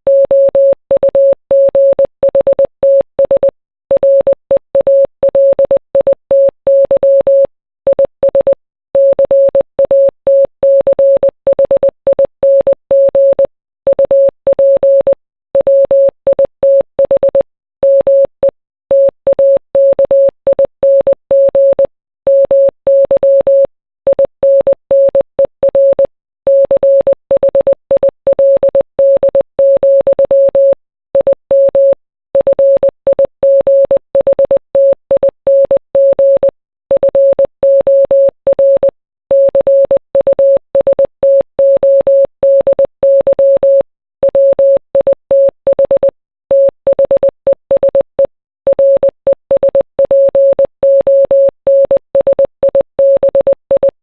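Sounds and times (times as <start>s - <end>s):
morse code beeps: 0.1s - 48.1s, 48.7s - 54.0s.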